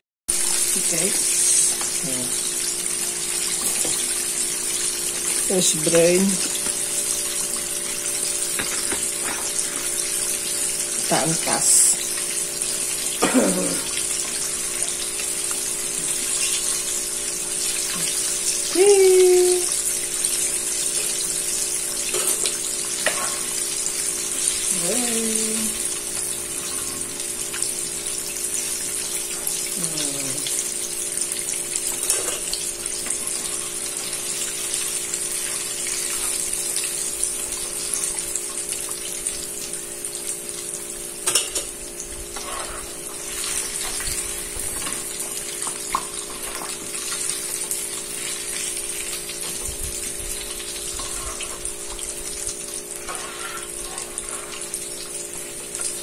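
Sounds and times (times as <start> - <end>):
chicken deep-frying in oil: 0.3 - 56.0.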